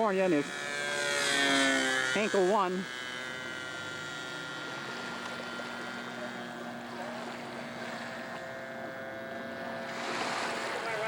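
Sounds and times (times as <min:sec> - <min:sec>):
small engine droning buzz: 0:00.0 - 0:11.0.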